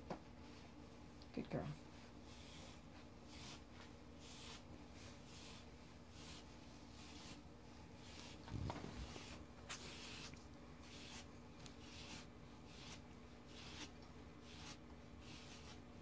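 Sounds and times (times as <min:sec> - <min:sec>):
shedding blade scratching fur: 0:02.0 - 0:16.0.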